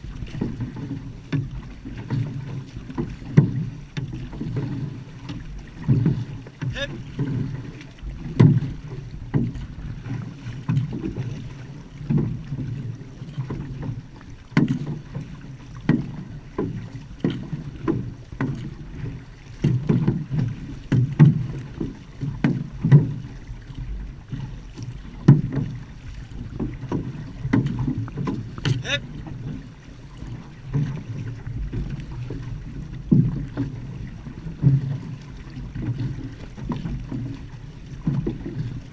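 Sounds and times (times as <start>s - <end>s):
paddle splashing thuds: 0.0s - 38.9s
water rushing along hull: 0.0s - 38.9s.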